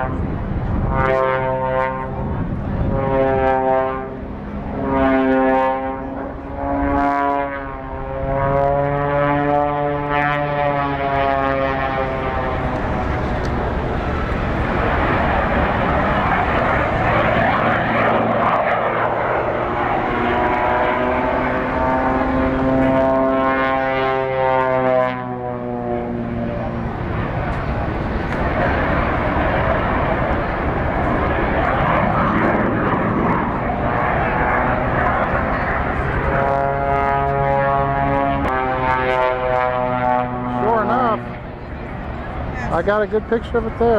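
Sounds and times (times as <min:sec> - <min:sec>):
broad rushing noise: 0:00.0 - 0:43.9
propeller airplane engine droning: 0:00.0 - 0:43.9.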